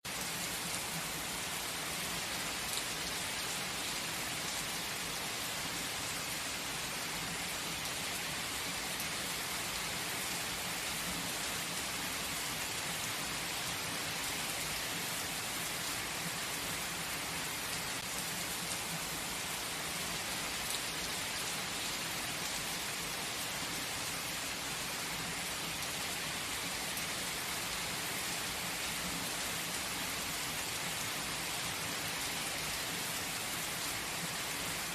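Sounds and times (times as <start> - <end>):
gentle rain falling: 0.0 - 34.9.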